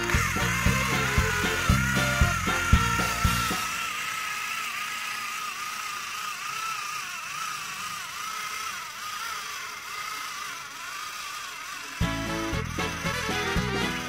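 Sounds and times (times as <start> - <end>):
toy train motors whining: 0.0 - 14.0.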